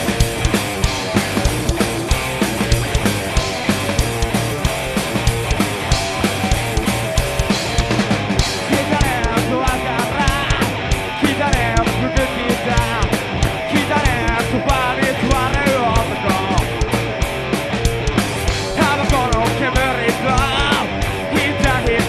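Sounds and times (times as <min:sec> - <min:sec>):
electric guitar bending melody: 0:00.0 - 0:22.0
fast drums: 0:00.0 - 0:22.0
rock band playing live: 0:00.0 - 0:22.0.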